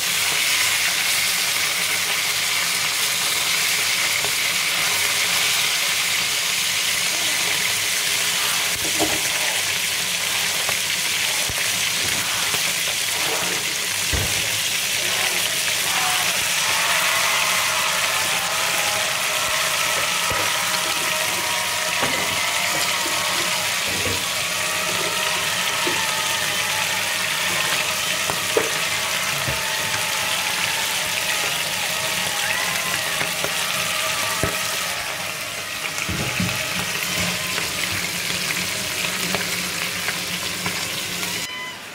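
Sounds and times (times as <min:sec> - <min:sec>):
fish sizzling in hot oil: 0:00.0 - 0:41.7.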